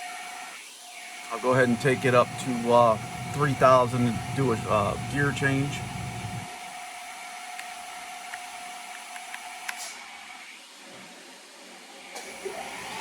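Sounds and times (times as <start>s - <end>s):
machine spindle whine: 0.0s - 8.8s, 10.0s - 13.0s
shop machinery hum and hiss: 0.0s - 13.0s.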